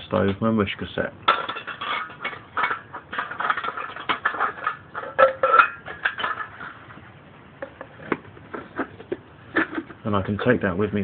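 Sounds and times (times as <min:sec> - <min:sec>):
tin cans scraping and clattering: 0:01.2 - 0:10.6.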